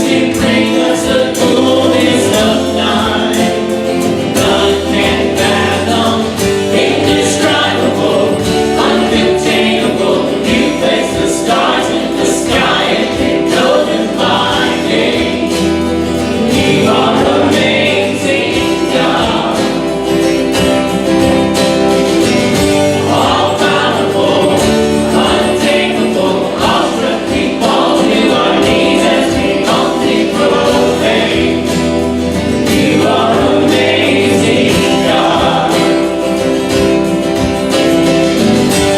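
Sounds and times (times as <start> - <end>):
congregation singing: 0.0 - 38.9
instruments accompanying: 0.0 - 38.9.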